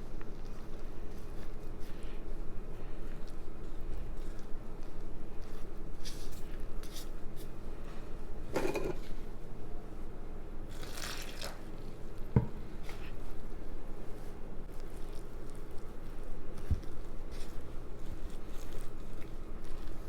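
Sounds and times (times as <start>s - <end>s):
dough squishing in a bowl: 0.0s - 20.0s
low steady hum: 0.0s - 20.0s.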